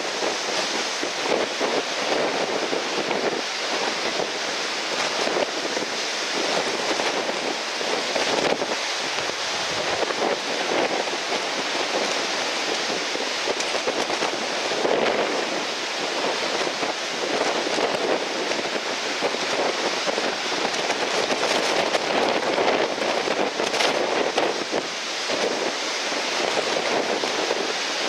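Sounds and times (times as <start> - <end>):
strong wind buffeting microphone: 0.0 - 28.0
surf washing: 0.0 - 28.0.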